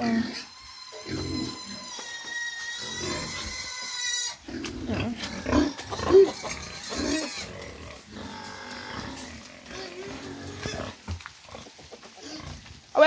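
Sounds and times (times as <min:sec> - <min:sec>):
pig squealing: 0:00.0 - 0:11.0
pigs grunting: 0:00.0 - 0:12.7.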